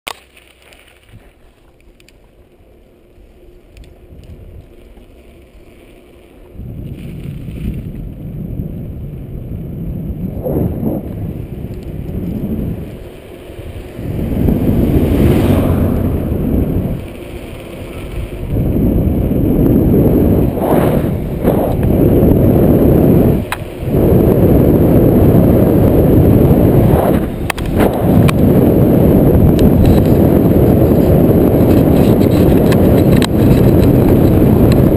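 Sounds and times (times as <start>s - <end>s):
tyre rumble on rough road: 0.1s - 34.9s
wind buffeting microphone: 6.4s - 34.9s.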